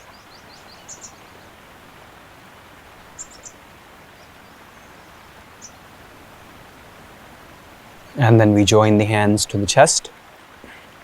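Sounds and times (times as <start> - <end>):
soft outdoor hiss: 0.0 - 11.0.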